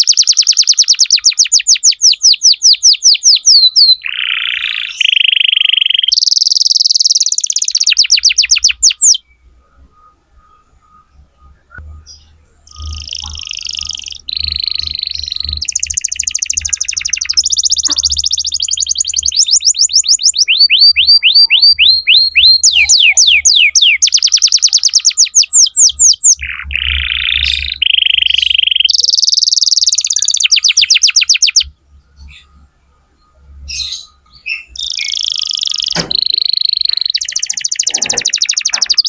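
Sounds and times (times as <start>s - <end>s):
canary singing trills: 0.0s - 39.0s.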